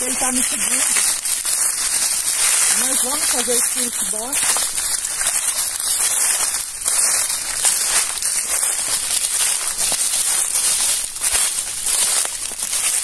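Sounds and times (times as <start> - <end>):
footsteps crunching dry leaves: 0.0 - 13.0.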